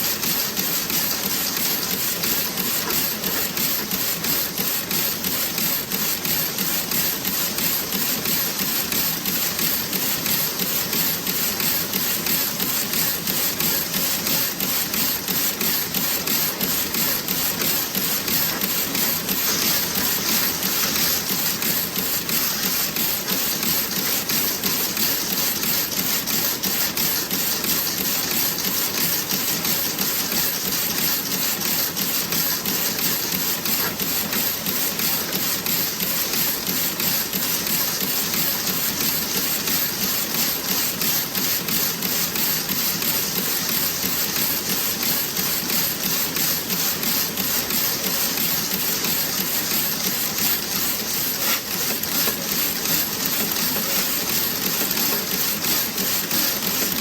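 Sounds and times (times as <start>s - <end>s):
knitting machine clicking: 0.0s - 57.0s.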